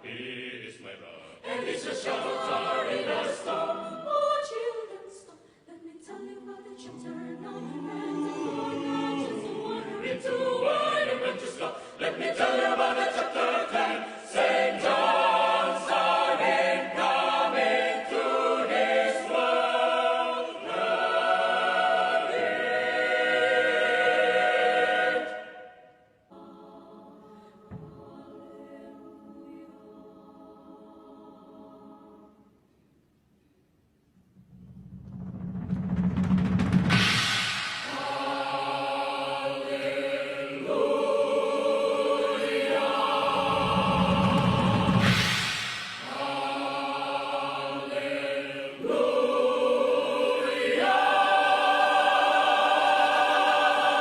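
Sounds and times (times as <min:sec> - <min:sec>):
choir singing a cappella: 0:00.0 - 0:32.8, 0:37.0 - 0:54.0.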